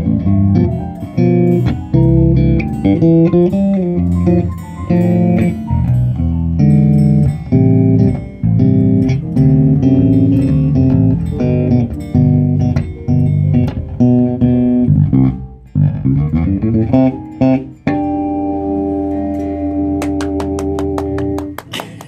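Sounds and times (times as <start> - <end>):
bass guitar plucked notes: 0.0 - 21.8.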